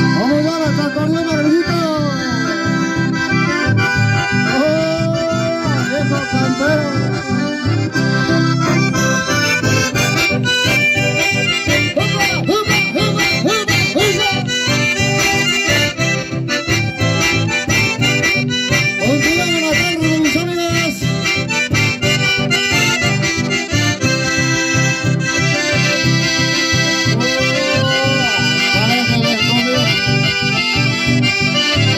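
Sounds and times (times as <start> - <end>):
button accordion dance music: 0.0 - 31.9.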